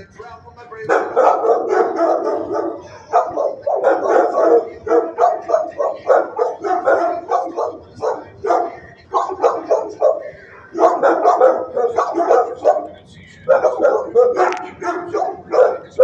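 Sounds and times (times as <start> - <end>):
dogs barking: 0.8 - 16.0.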